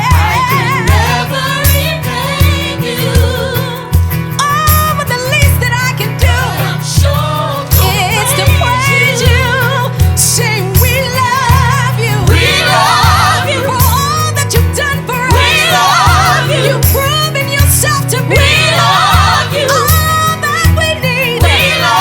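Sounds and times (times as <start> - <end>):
band with pulsing bass: 0.0 - 22.0
voices singing gospel: 0.0 - 22.0.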